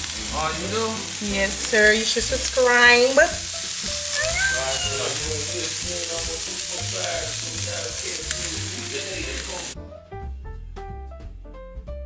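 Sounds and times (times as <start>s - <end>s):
food sizzling in hot oil: 0.0s - 9.8s.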